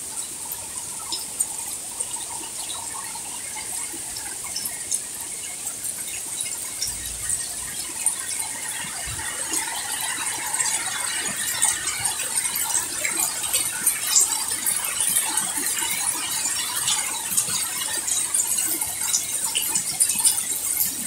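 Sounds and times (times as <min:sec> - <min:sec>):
rain on plants and path: 0:00.0 - 0:21.0.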